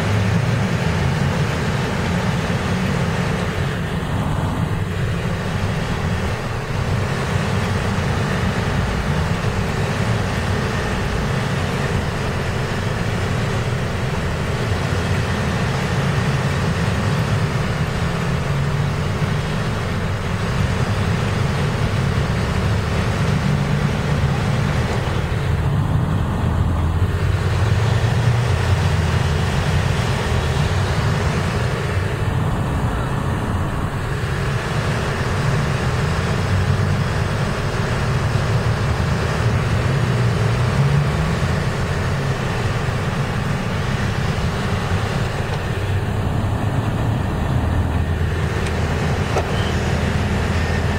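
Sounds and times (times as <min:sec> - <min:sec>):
traffic rumble: 0:00.0 - 0:50.9.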